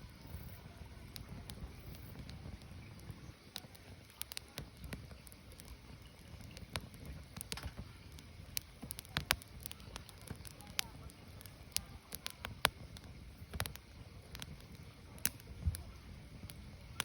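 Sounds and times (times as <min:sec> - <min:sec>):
burning wood crackling: 0:00.0 - 0:17.0.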